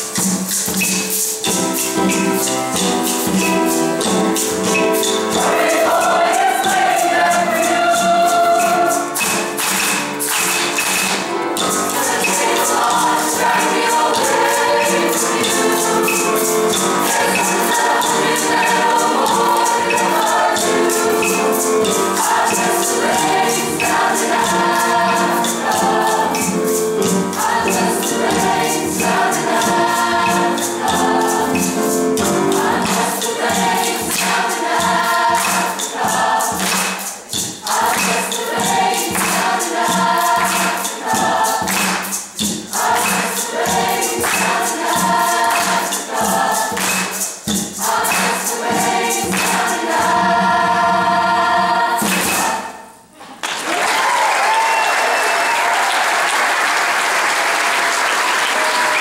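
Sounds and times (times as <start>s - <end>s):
hand drum beat: 0.0s - 52.7s
mixed choir singing in harmony: 1.8s - 53.1s, 53.9s - 59.0s.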